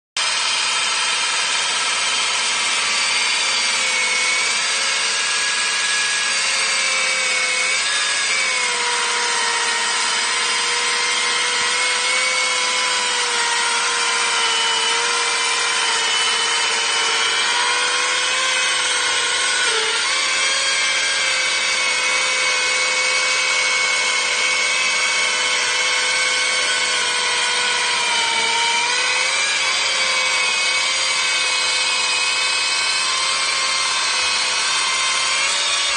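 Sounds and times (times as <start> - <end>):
chainsaw cutting concrete: 0.2 - 35.9.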